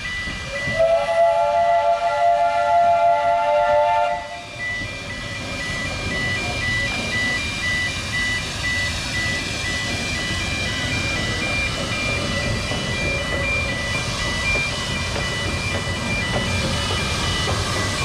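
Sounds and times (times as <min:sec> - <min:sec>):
level crossing alarm beeping: 0:00.0 - 0:18.0
steam train rumbling: 0:00.0 - 0:18.0.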